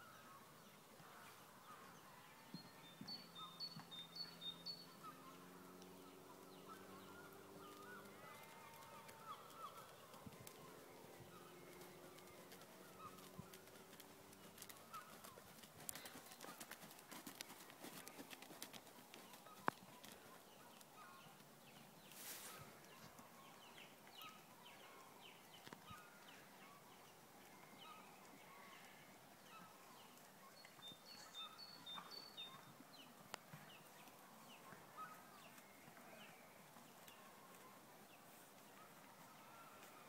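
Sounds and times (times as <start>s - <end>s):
small birds chirping: 0.0s - 39.1s
faint horse hoofbeats: 0.9s - 40.0s.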